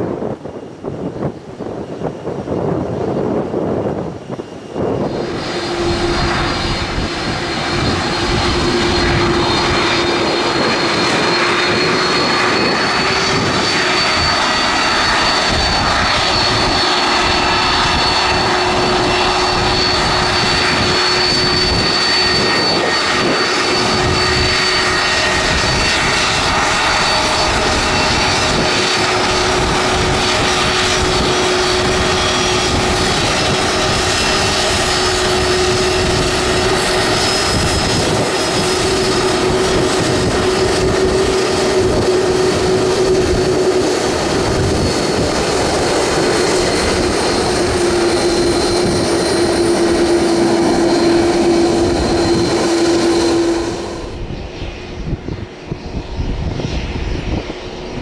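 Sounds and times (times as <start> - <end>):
aircraft engines running: 0.0 - 58.0.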